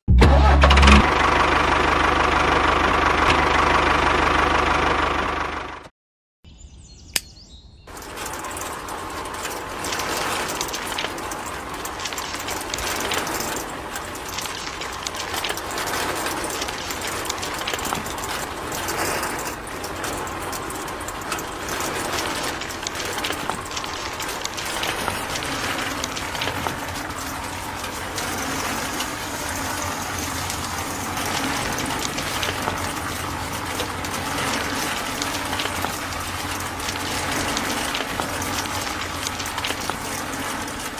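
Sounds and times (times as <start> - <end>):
sand and pebbles rattling in sieve: 7.9 - 40.9.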